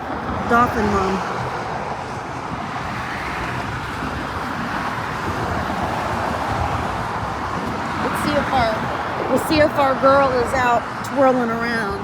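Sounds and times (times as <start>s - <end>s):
outdoor rushing noise: 0.0s - 12.0s
wind rumbling on microphone: 0.0s - 12.0s.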